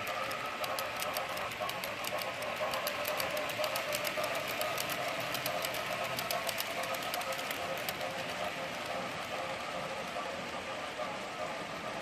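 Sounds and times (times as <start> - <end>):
rapid clicking: 0.0 - 10.6
model train motor whine: 0.0 - 12.0.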